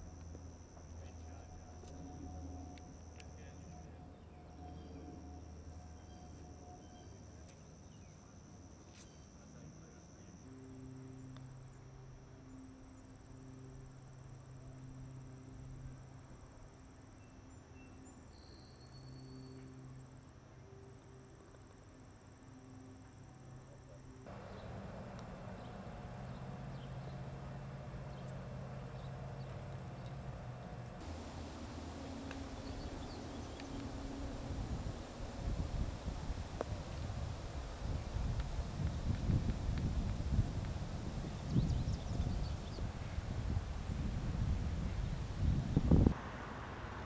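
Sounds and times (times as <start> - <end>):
insects trilling: 0.0 - 46.2
low steady hum: 0.0 - 47.0.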